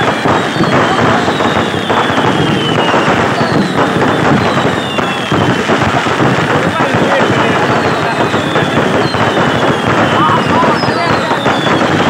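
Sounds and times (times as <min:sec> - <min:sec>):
high whistles gliding down: 0:00.0 - 0:05.7, 0:07.4 - 0:12.0
fireworks bangs and crackling: 0:00.0 - 0:12.0.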